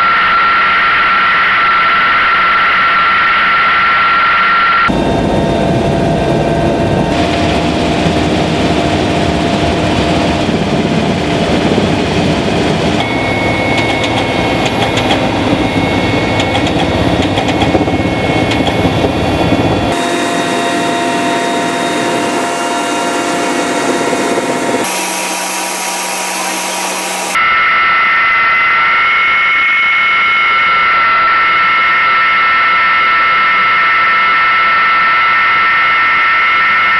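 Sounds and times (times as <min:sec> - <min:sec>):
high turbine whine: 0:00.0 - 0:36.9
helicopter turbines and rotors: 0:02.6 - 0:36.9.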